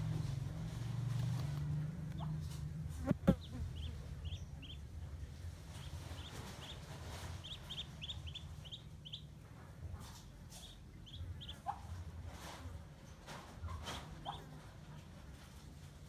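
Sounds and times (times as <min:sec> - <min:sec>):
low steady hum: 0:00.0 - 0:16.0
ducklings peeping: 0:01.1 - 0:15.2.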